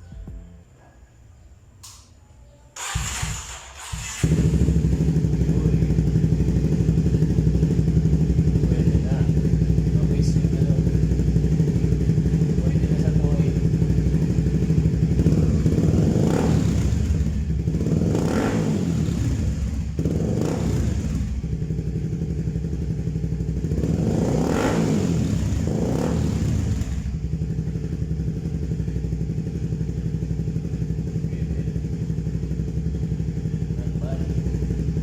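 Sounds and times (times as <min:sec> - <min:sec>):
motorcycle engine idling: 0:02.8 - 0:35.0
motorcycle throttle blips: 0:02.8 - 0:35.0.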